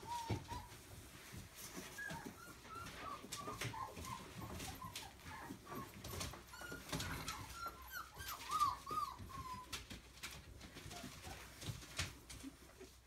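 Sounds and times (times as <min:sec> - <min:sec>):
puppy whimpering: 0:00.0 - 0:13.0.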